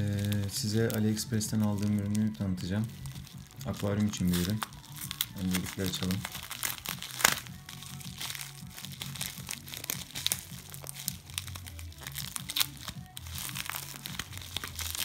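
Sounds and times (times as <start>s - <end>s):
plastic envelope crinkling: 0.0s - 15.0s.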